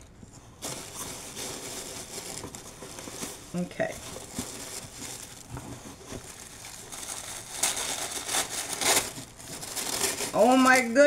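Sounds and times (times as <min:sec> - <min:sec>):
gift packaging crinkling: 0:00.0 - 0:11.0.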